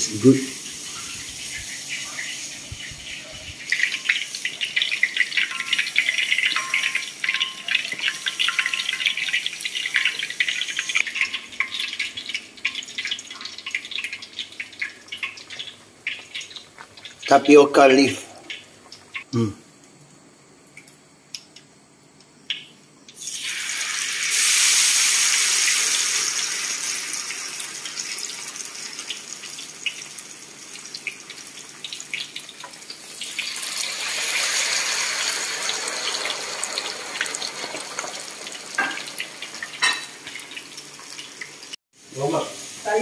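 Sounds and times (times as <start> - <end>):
chicken frying in hot oil: 0.0 - 19.3, 22.5 - 43.0.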